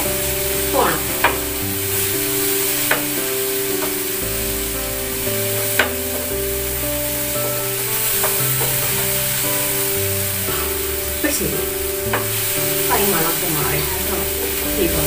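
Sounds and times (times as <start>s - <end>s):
vegetables sizzling in oil: 0.1s - 15.0s.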